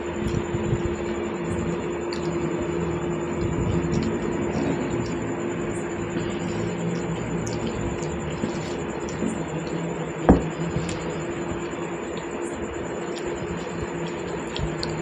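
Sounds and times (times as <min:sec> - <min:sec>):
steady low hum: 0:00.0 - 0:15.0
hand squishing wet food: 0:00.2 - 0:15.0.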